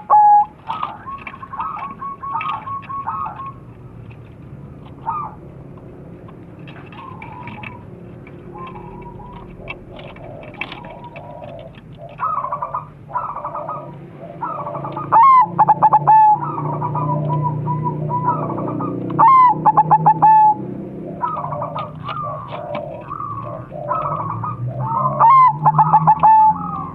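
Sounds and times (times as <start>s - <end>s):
dove stuttering notes: 0.0s - 26.9s
doves cooing: 0.0s - 26.9s.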